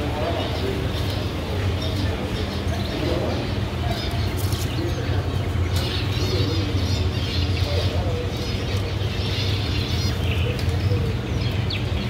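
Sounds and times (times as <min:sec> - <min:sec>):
canaries chirping: 0:00.0 - 0:12.0
steady low hum: 0:00.0 - 0:12.0.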